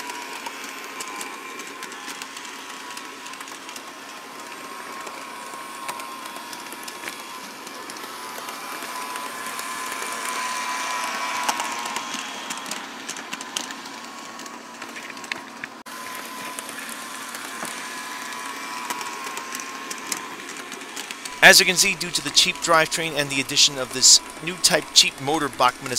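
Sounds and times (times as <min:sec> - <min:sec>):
model train motor whine: 0:00.0 - 0:25.9.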